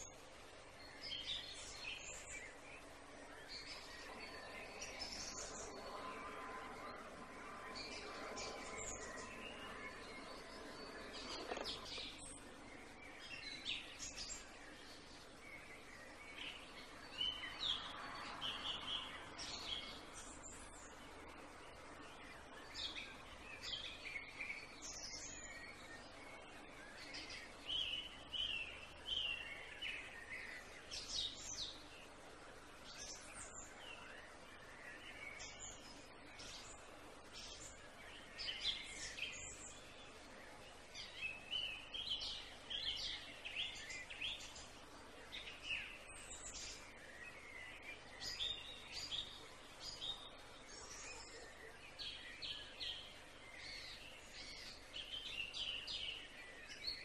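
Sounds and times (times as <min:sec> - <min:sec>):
faint background hiss: 0:00.0 - 0:57.0
small birds chirping: 0:00.0 - 0:57.0.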